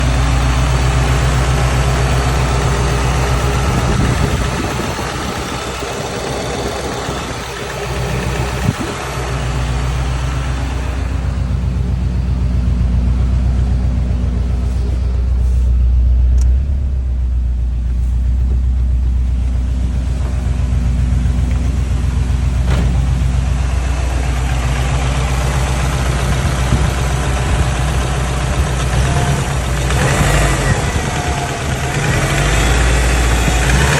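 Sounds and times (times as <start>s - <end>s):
car engine running: 0.0s - 33.9s
engine knocking noise: 0.0s - 33.9s.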